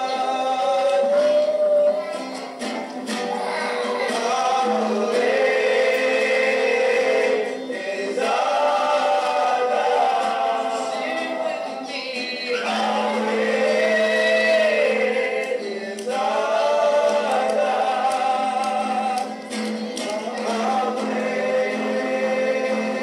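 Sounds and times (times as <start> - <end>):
men singing in harmony: 0.0 - 2.2, 3.4 - 23.0
acoustic guitar: 0.0 - 23.0.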